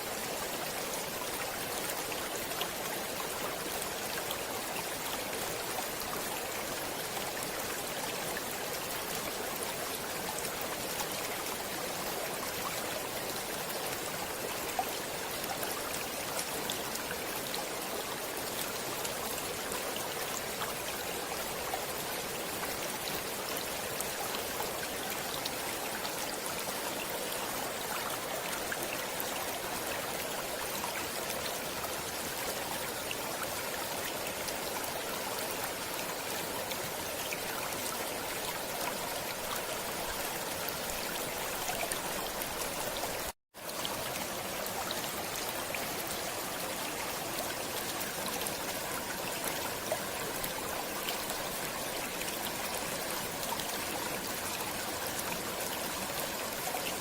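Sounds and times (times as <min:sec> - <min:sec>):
stream water rushing and trickling: 0:00.0 - 0:57.0.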